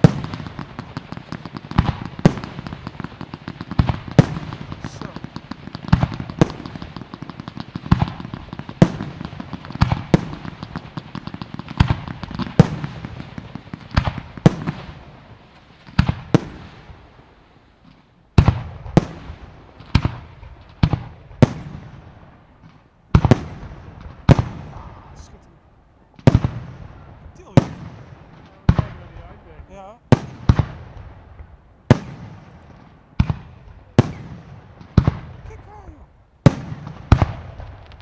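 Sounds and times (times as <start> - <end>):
fireworks crackle and hiss: 0.0 - 25.6, 26.2 - 38.0
fireworks bangs: 0.0 - 38.0.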